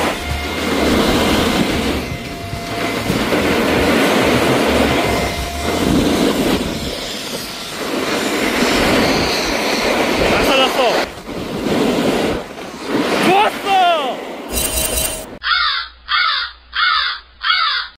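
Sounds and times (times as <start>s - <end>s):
snowboard edges scraping on snow: 0.0s - 15.3s.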